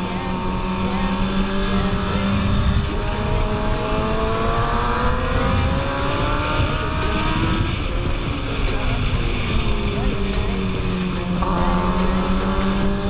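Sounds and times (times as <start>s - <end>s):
motorcycle engine accelerating: 0.0s - 13.0s
wind rumble on microphone: 0.0s - 13.0s.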